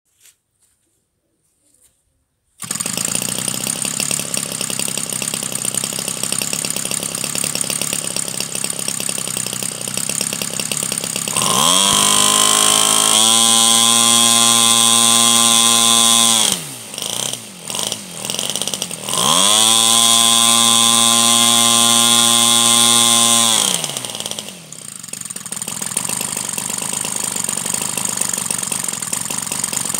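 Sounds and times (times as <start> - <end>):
model airplane engine revving: 2.6 - 29.9.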